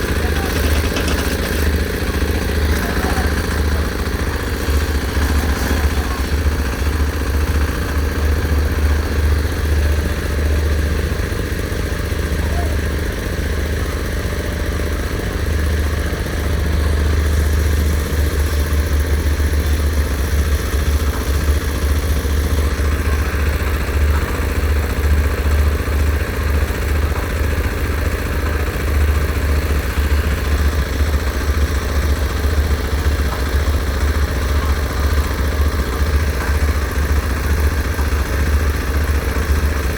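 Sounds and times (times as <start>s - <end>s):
heavy machinery engine rumbling: 0.0s - 39.9s.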